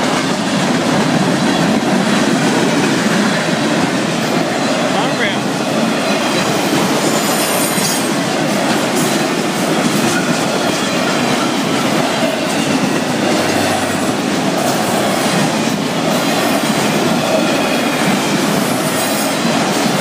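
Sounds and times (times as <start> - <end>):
steel train wheels on rails: 0.0 - 20.0.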